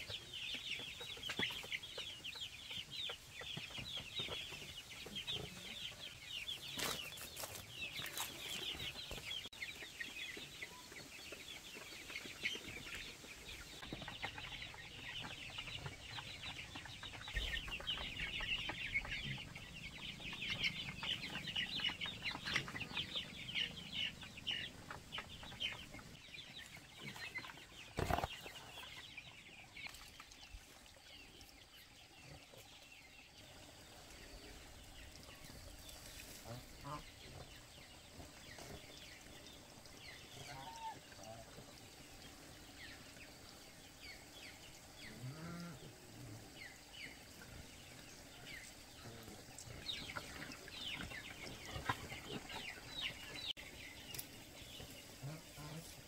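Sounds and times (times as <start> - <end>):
chicks peeping: 0.0 - 45.9, 46.5 - 56.0.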